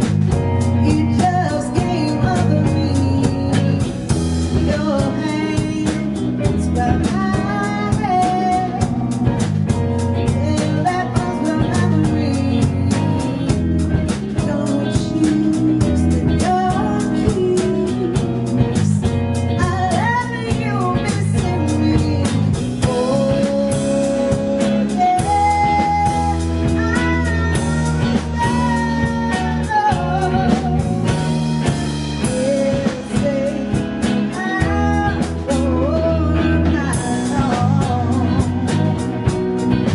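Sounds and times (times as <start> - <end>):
bending lead guitar melody: 0.0 - 39.9
live blues band playing: 0.0 - 39.9.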